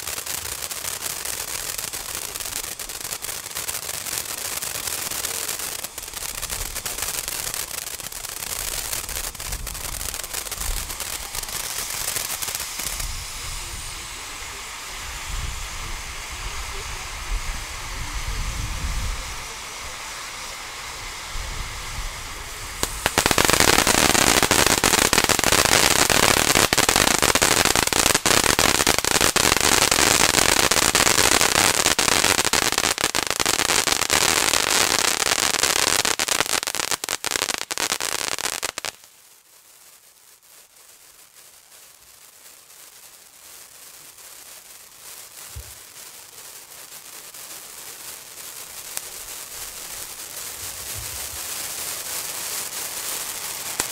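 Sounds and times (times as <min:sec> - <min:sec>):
firework fountain crackling hiss: 0:00.0 - 0:53.9.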